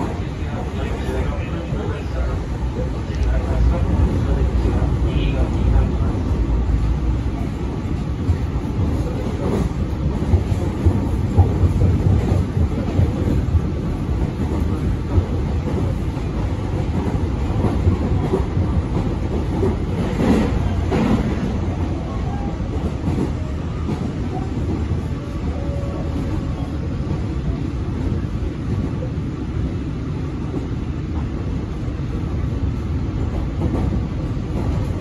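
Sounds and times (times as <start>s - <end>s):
clickety-clack of rail joints: 0.0s - 35.0s
train wheels rumbling on rails: 0.0s - 35.0s.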